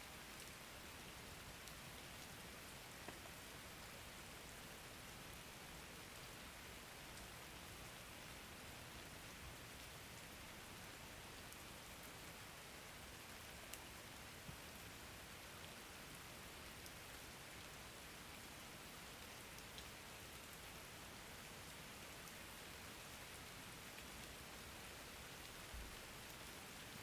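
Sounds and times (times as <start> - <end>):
rain hiss: 0.0 - 27.0.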